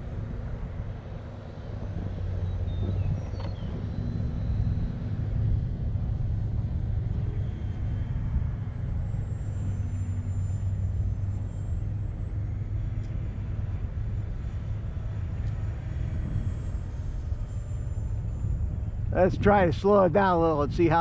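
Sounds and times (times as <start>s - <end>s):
distant model airplane whine: 0.0s - 21.0s
low outdoor rumble: 0.0s - 21.0s.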